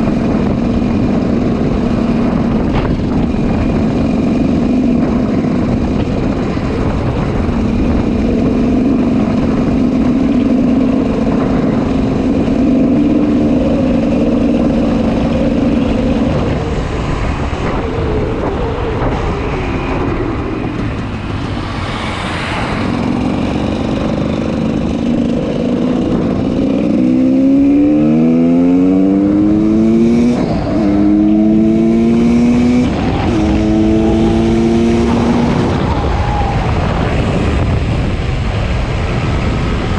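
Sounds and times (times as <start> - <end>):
two-stroke motorcycle engine accelerating: 0.0 - 39.9.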